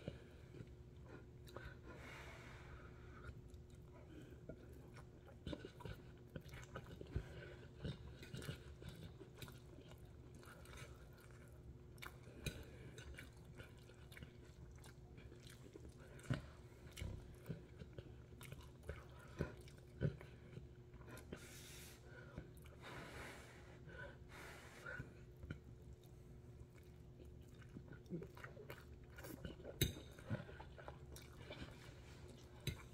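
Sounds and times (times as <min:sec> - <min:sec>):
person chewing noodles: 0:00.0 - 0:22.9, 0:24.9 - 0:32.9.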